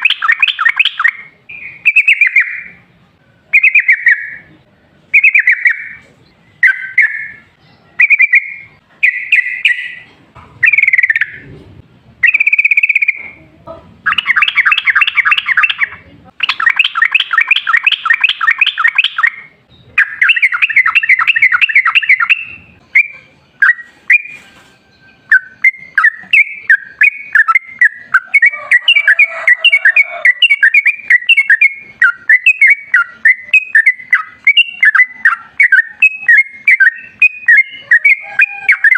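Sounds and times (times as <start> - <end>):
bulbul singing: 0.0 - 11.5, 12.2 - 38.9.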